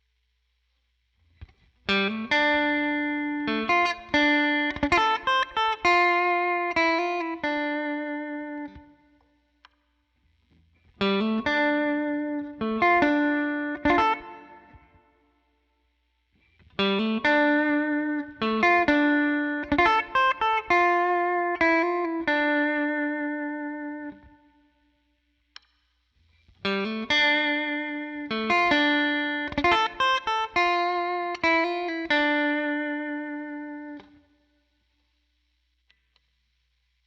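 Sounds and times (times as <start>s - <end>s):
electric guitar picked notes: 1.3s - 9.6s, 10.4s - 15.4s, 16.4s - 25.7s, 26.3s - 37.0s.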